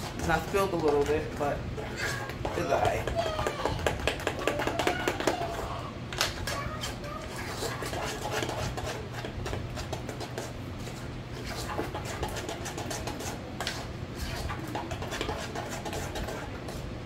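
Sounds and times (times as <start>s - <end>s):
steady low hum: 0.0s - 17.0s
utensil scraping mixing bowl: 0.0s - 17.0s.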